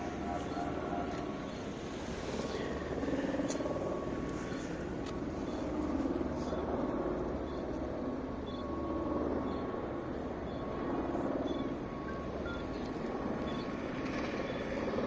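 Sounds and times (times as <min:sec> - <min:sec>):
distant aircraft drone: 0:00.0 - 0:15.0.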